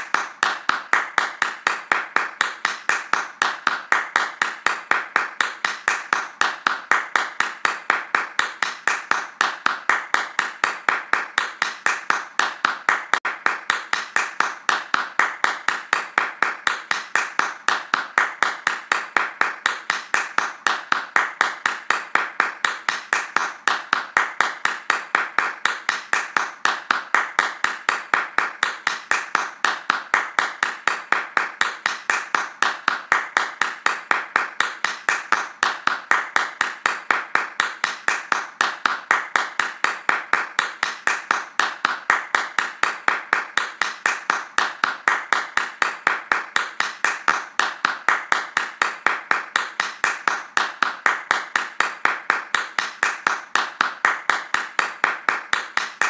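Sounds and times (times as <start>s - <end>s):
hands clapping fast: 0.0s - 56.0s.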